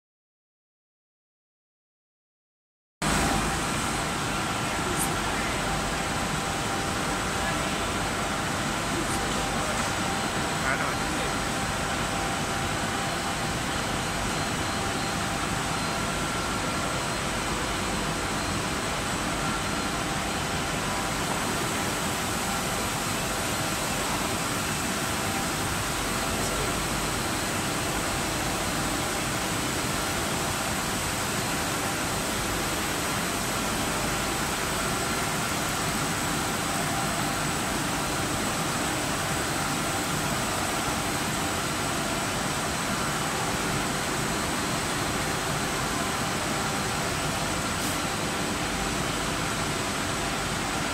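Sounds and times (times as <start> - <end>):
machine hum with whining tones: 3.0 - 50.9.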